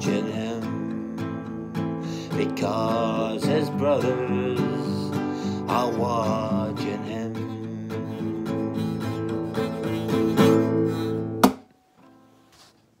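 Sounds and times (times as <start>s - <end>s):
acoustic guitar strummed and picked: 0.0s - 12.7s.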